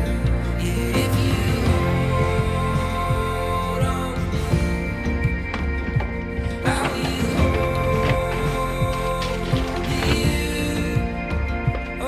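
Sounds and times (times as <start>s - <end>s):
instrumental song with light percussion: 0.0s - 12.0s.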